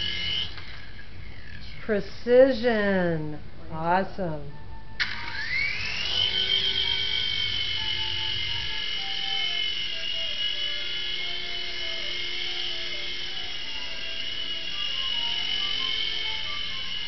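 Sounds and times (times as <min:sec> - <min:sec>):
toy helicopter motor whine: 0:00.0 - 0:02.0, 0:05.0 - 0:17.0.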